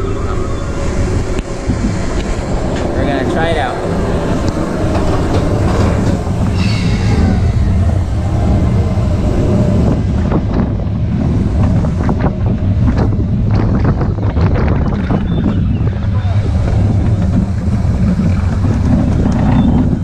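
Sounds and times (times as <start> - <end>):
roller coaster rumbling on track: 0.0 - 20.0
wind buffeting microphone: 0.0 - 20.0.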